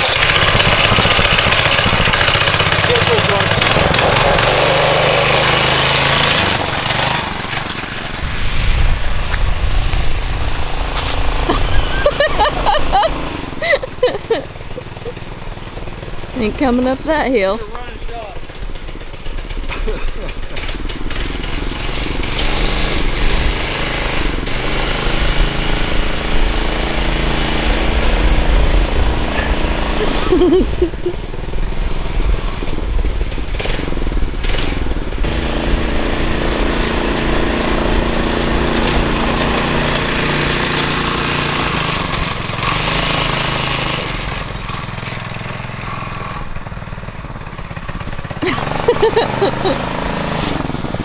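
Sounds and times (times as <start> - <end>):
go-kart engine running under load: 0.0 - 51.0.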